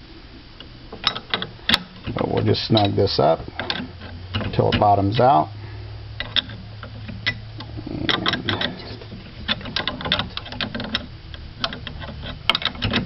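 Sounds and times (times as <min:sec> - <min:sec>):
wrenches clanking on metal: 0:01.0 - 0:05.4, 0:06.2 - 0:13.0.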